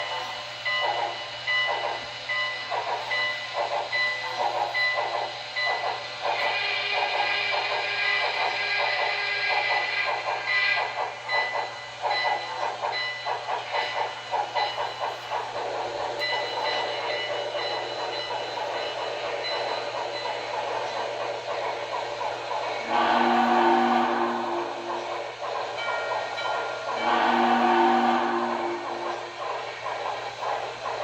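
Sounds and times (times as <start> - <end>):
model steam locomotive chuffing: 0.0 - 31.0
steam hiss: 0.0 - 31.0.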